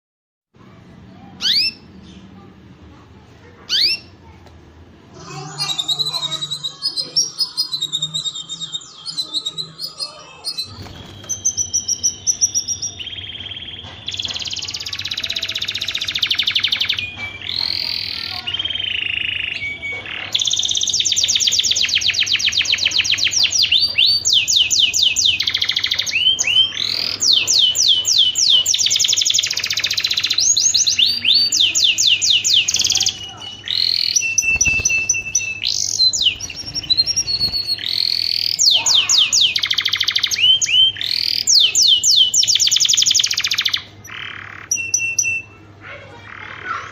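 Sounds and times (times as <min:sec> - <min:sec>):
faint low hum: 0:00.6 - 0:46.9
canary singing trills: 0:00.9 - 0:02.7, 0:03.5 - 0:04.4, 0:05.2 - 0:46.9.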